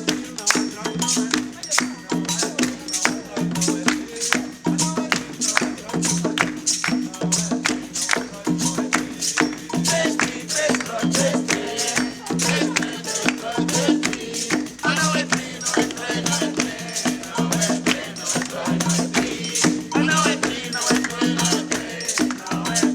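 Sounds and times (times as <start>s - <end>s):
hand percussion striking: 0.0s - 22.9s
people singing: 0.0s - 22.9s
shaker rattling: 0.0s - 22.9s.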